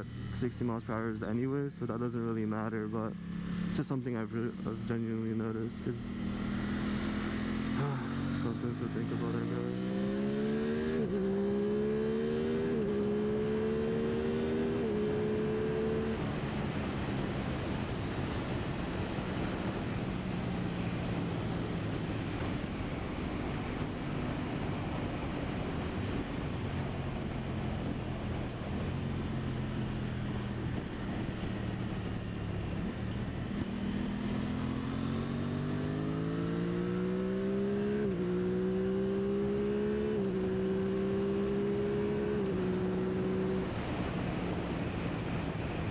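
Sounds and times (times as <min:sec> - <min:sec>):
motorcycle engine accelerating: 0:02.3 - 0:45.9.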